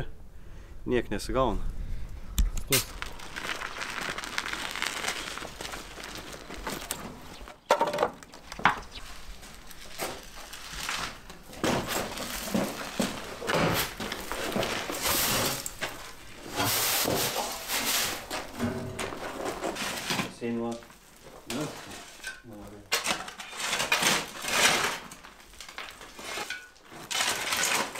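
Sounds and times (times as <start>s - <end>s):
scraping from building work: 4.7s - 20.8s, 21.4s - 27.9s.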